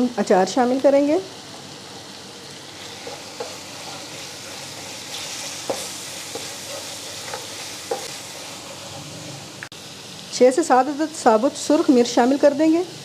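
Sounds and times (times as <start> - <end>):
sizzling in hot oil: 0.0 - 13.0.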